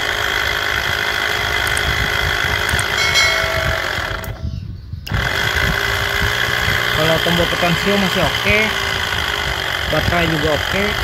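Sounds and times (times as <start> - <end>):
electric pump motor whining: 0.0 - 4.5, 5.1 - 11.0.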